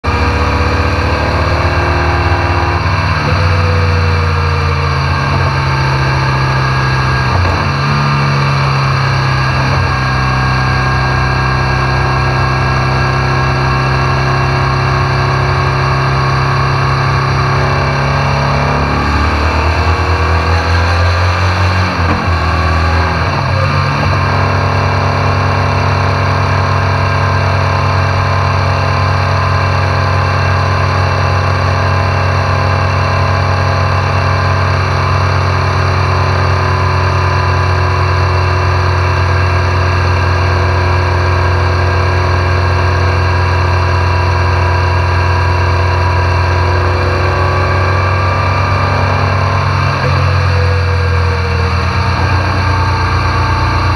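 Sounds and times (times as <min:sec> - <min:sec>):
motorcycle engine at road speed: 0:00.0 - 0:53.9
road and wind noise: 0:00.0 - 0:53.9.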